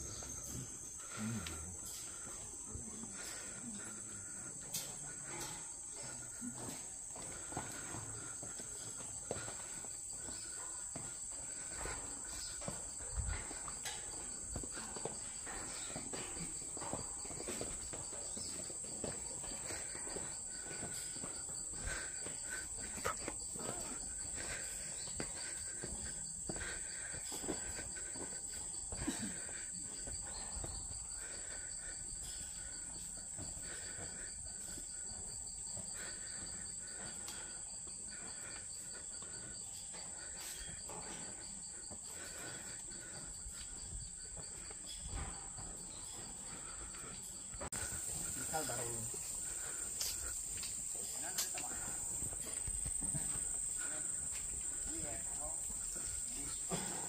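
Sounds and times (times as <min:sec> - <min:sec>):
insects chorus: 0:00.0 - 0:57.0.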